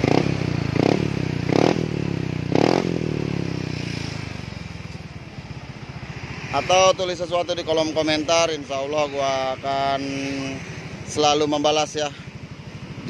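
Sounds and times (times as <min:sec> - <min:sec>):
scooter engine revving and idling: 0:00.0 - 0:13.0.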